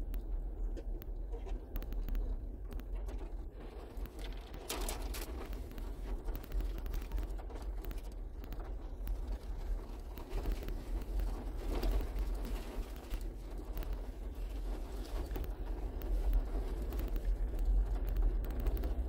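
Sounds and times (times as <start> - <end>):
small rattles: 0.3 - 19.0
vehicle rumbling over gravel: 3.0 - 19.0.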